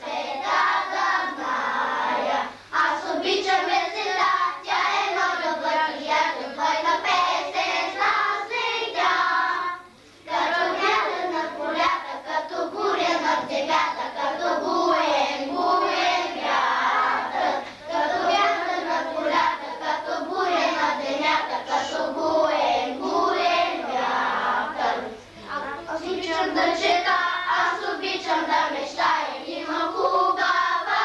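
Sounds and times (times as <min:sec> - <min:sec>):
children singing in unison: 0:00.0 - 0:31.0.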